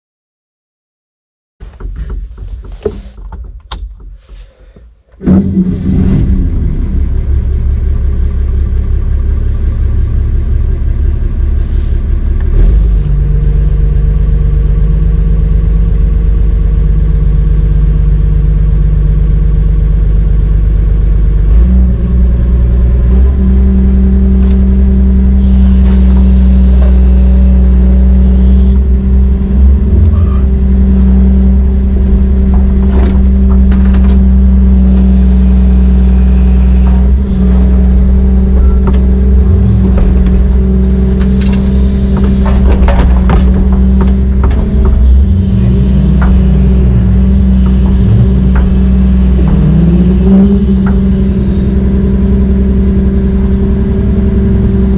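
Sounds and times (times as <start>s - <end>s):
heavy diesel engine under load: 1.6s - 54.9s.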